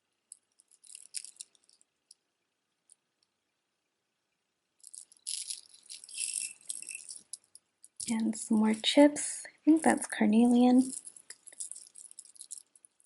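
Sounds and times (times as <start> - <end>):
beads clicking and rattling: 0.2 - 3.4, 4.8 - 8.8, 9.6 - 13.0.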